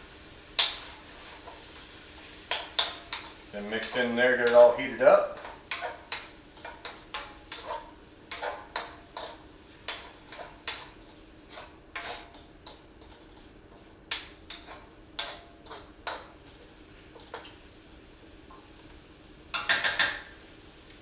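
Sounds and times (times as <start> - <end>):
utensil scraping a wok: 0.1 - 17.9.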